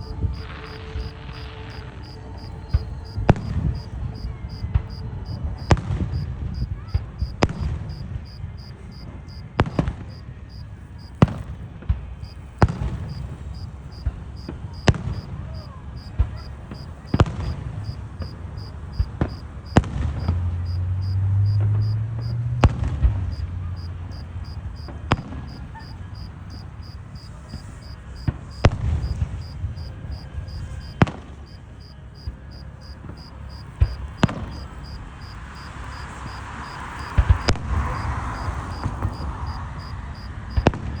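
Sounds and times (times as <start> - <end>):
crickets chirping: 0.0 - 11.6, 12.2 - 41.0
distant fireworks rumble: 0.0 - 41.0
fireworks bangs: 0.0 - 41.0.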